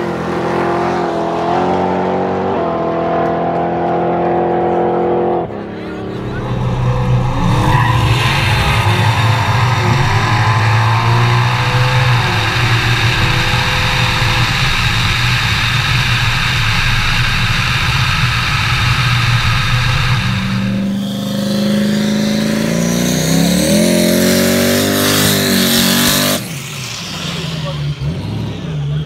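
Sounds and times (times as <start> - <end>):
car engine revving: 0.0 - 29.0
wind and road noise: 2.6 - 28.6.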